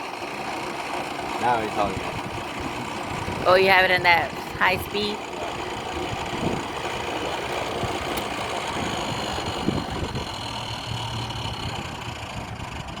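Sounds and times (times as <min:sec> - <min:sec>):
drill press motor hum: 0:00.0 - 0:12.5.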